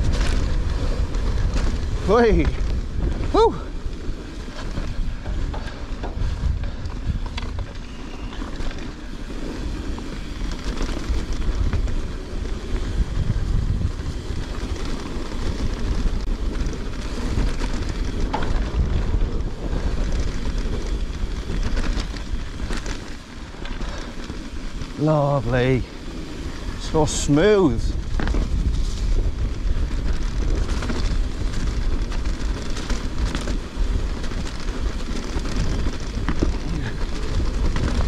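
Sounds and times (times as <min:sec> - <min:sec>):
bike knocks and rattles: 0:00.0 - 0:25.2, 0:27.6 - 0:38.0
bike tyres rumbling on grass: 0:00.0 - 0:38.0
wind buffeting microphone: 0:00.0 - 0:38.0.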